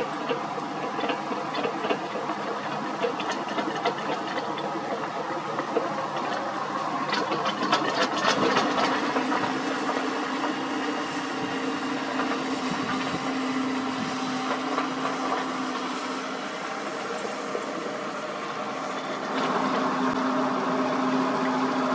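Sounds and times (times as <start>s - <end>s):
excavator running: 0.0s - 21.9s.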